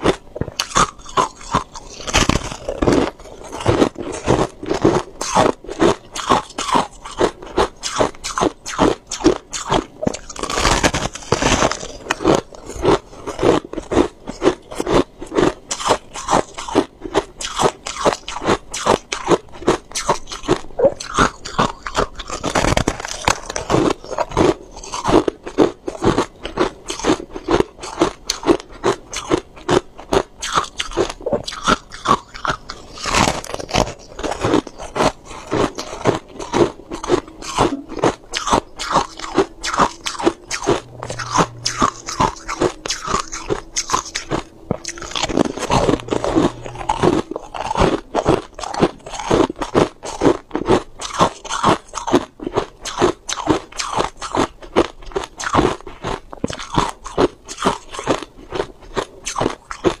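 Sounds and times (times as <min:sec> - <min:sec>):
crushed ice crunching in mouth: 0:00.0 - 1:00.0.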